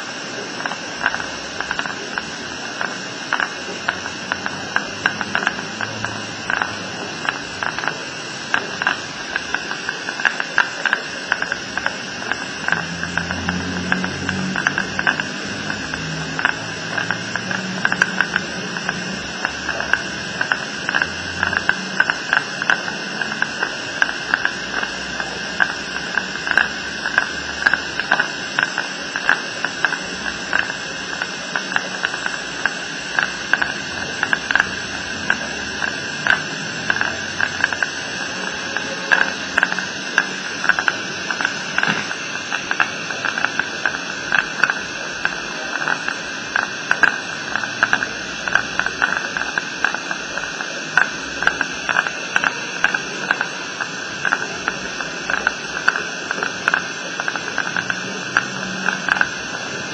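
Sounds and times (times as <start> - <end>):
faint high whine: 0.0 - 59.9
irregular clicks and crackles: 0.0 - 59.9
steady hiss: 0.0 - 59.9.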